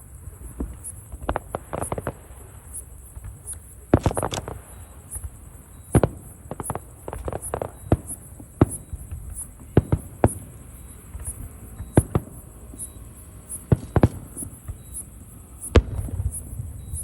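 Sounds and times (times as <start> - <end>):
fireworks bangs: 0.3 - 17.0.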